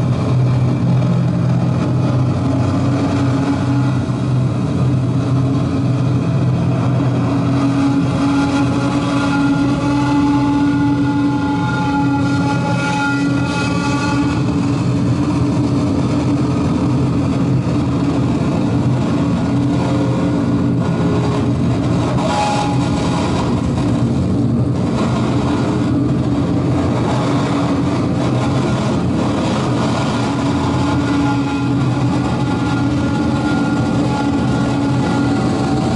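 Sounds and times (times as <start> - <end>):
dark ambient noise drone: 0.0 - 35.9.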